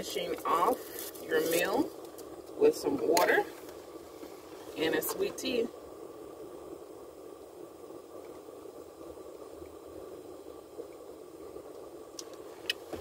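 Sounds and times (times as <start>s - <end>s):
car cabin hum and hiss: 0.0s - 13.0s.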